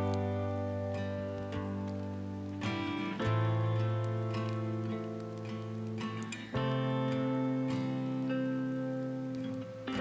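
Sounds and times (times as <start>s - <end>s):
strummed acoustic guitar chords: 0.0s - 10.0s.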